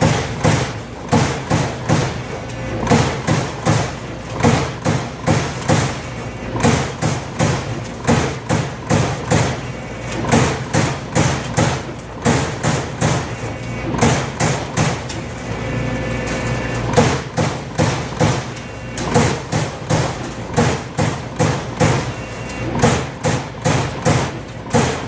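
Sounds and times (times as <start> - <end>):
punch press hitting sheet metal: 0.0 - 15.5, 16.3 - 25.0.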